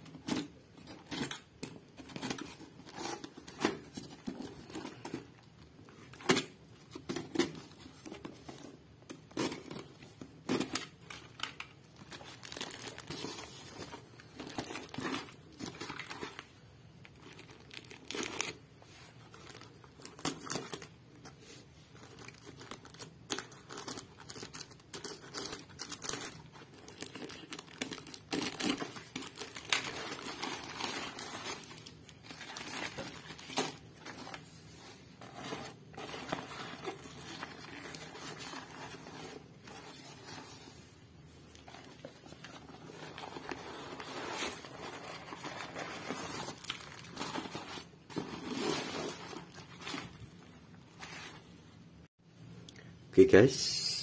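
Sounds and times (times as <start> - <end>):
crumpled paper rustling: 0.1 - 51.8.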